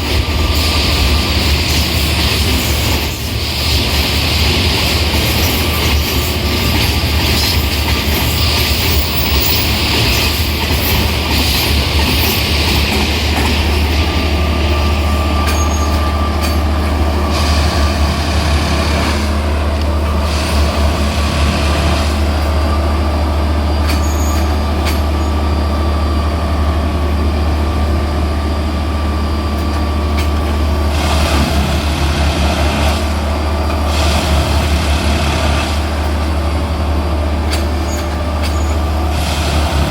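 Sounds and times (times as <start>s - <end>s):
track machine diesel engine hum: 0.0s - 39.9s.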